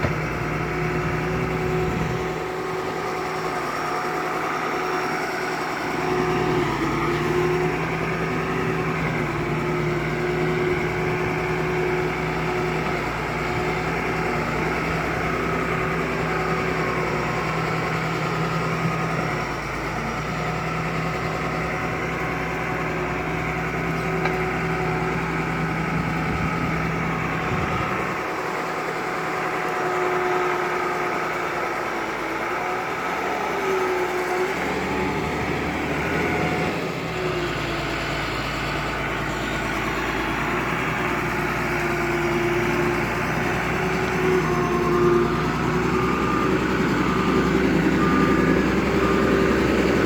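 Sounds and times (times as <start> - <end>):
bulldozer diesel engine running: 0.0 - 50.0.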